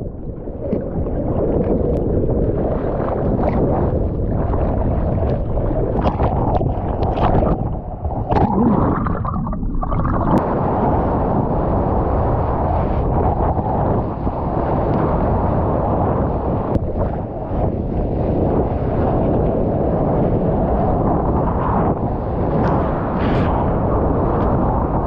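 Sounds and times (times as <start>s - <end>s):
seawater splashing and rushing: 0.0s - 25.0s.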